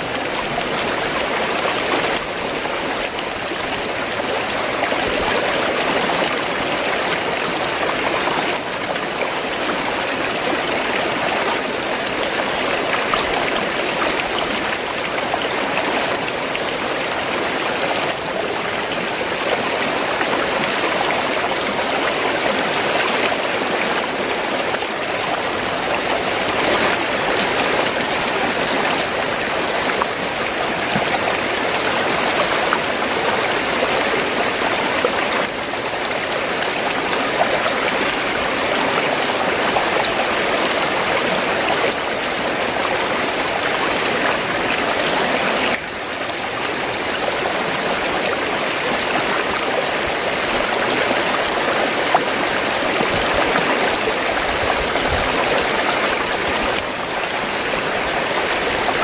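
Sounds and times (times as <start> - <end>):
stream water rushing and gurgling: 0.0 - 59.0.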